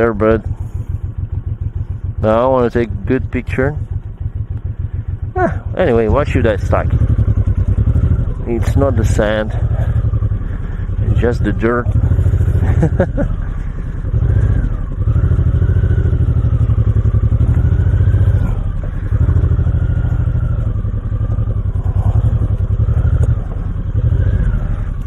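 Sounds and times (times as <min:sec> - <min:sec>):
motorcycle engine revving slowly: 0:00.0 - 0:25.0.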